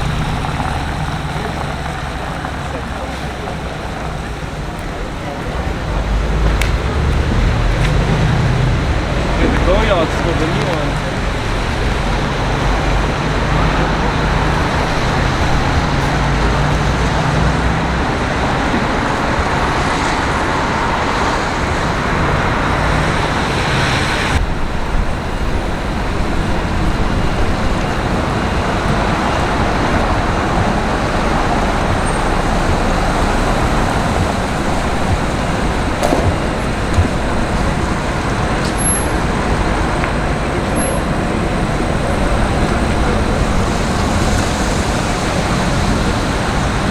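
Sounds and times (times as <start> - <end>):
low engine hum: 0.0 - 46.9
road traffic: 0.0 - 46.9.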